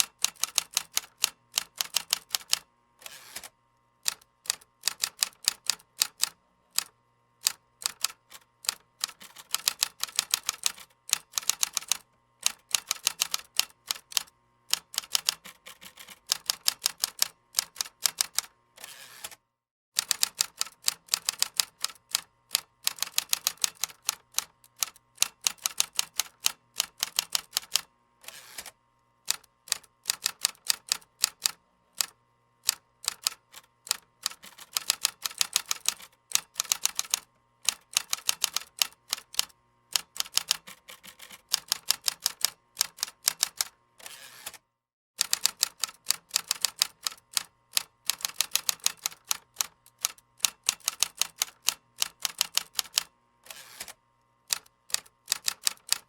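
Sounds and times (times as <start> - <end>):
typing on computer keyboard: 0.0 - 2.6, 3.4 - 18.5, 20.0 - 27.9, 29.3 - 43.8, 45.2 - 56.0.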